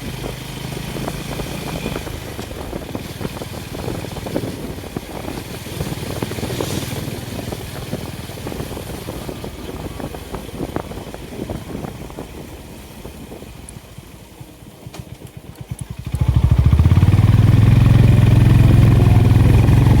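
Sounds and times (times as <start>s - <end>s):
motorcycle engine thumping: 0.0s - 20.0s.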